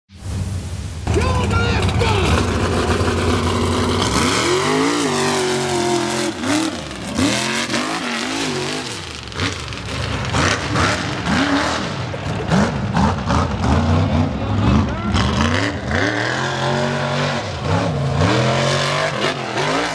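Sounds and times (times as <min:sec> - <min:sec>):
truck engine revving hard: 0:01.1 - 0:19.9.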